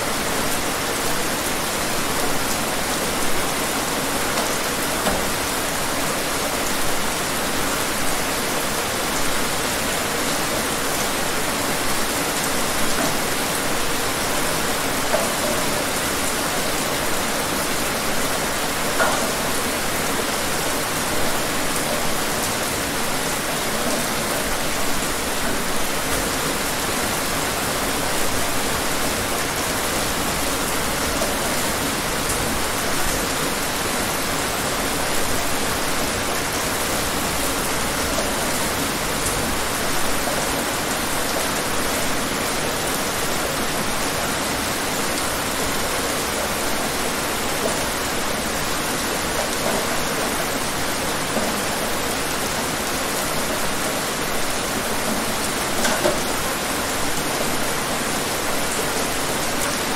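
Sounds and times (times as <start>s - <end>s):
sharp raindrops: 0.0s - 59.9s
steady rain hiss: 0.0s - 59.9s.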